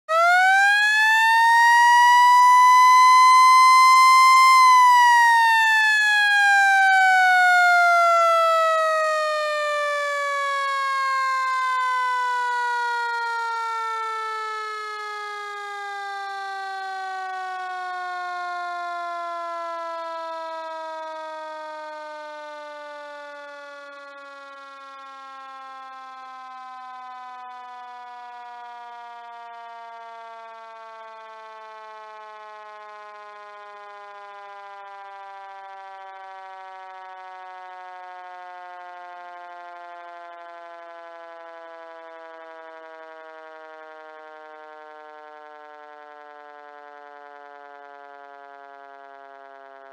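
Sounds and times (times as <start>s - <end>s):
mechanical fire siren wailing: 0.0s - 49.9s.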